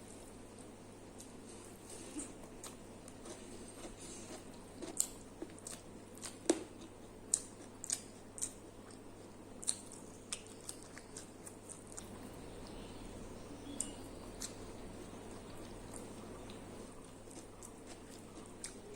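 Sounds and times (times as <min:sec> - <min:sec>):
person chewing: 0:01.2 - 0:12.8, 0:13.6 - 0:18.9.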